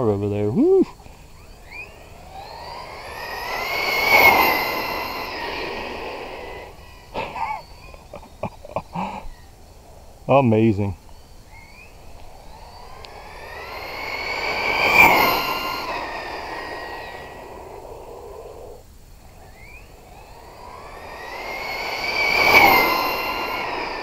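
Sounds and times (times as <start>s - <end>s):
rc car motor whining: 1.0s - 10.3s, 11.0s - 24.0s.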